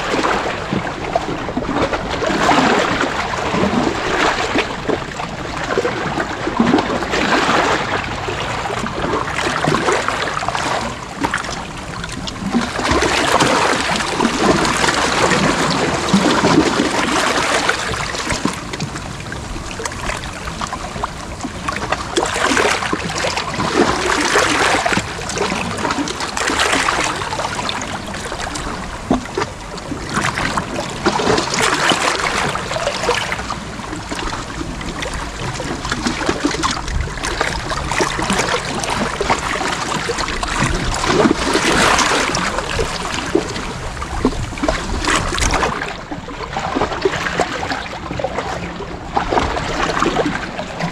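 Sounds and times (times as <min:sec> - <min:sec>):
sea waves washing: 0:00.0 - 0:50.9.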